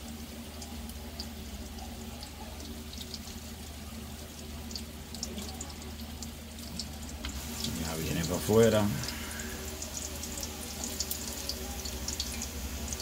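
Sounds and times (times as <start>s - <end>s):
low steady hum: 0.0s - 13.0s
meat sizzling in hot oil: 0.0s - 13.0s.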